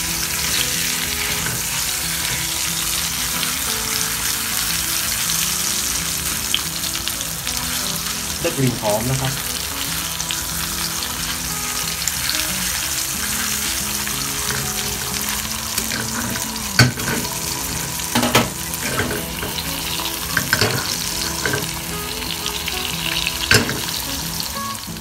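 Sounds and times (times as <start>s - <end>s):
meat sizzling in butter: 0.0s - 25.0s.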